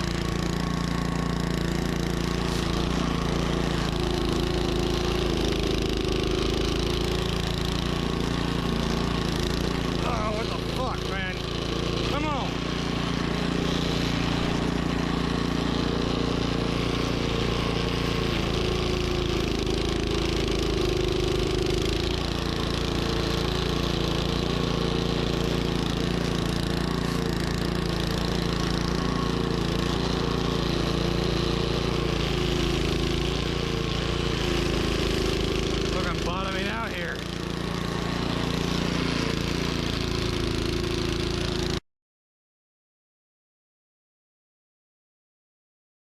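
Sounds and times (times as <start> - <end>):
snowblower engine running: 0.0 - 41.8.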